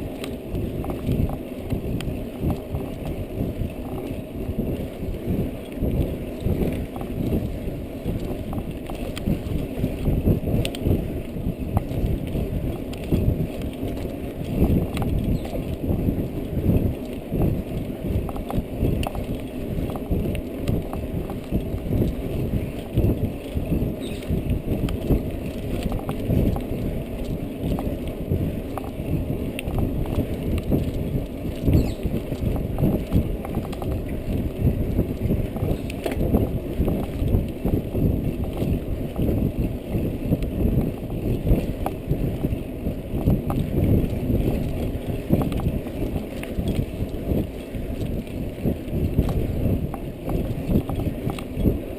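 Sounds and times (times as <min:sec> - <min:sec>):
muffled rumble of ride on rough track: 0:00.0 - 0:51.9.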